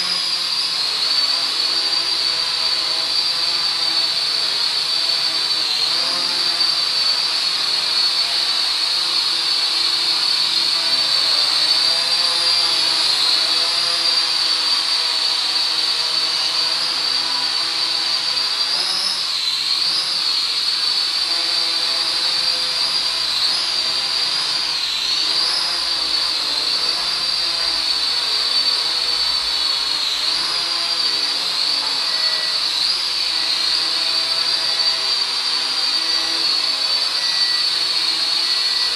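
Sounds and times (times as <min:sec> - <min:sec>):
mini quadcopter whining: 0:00.0 - 0:38.9.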